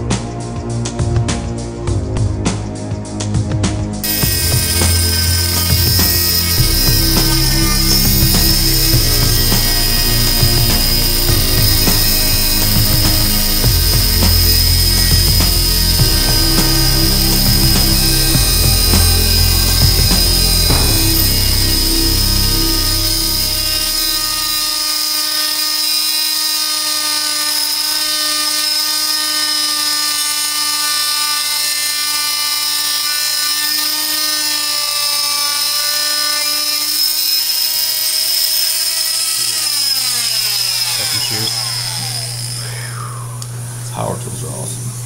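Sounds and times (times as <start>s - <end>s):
electric saw motor whining: 4.0s - 44.2s
motor winding down: 4.0s - 45.0s.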